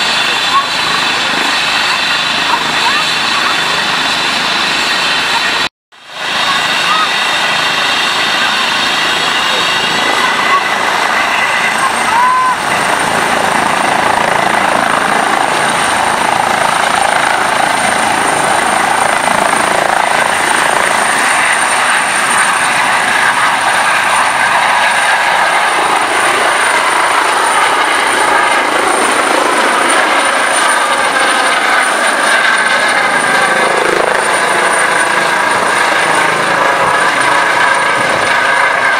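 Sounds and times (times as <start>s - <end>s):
helicopter rotor and turbine noise: 0.0s - 38.9s.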